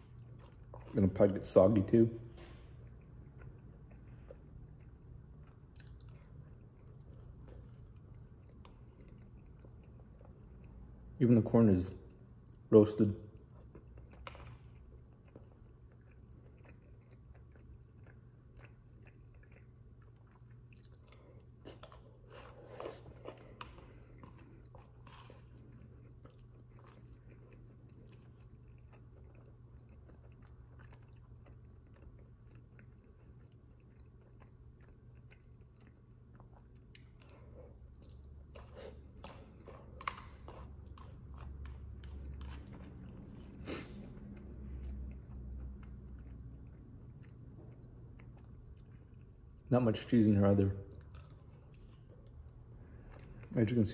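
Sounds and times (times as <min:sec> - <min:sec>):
quiet chewing: 0:00.0 - 0:11.2, 0:13.3 - 0:53.8
low steady hum: 0:00.0 - 0:53.9.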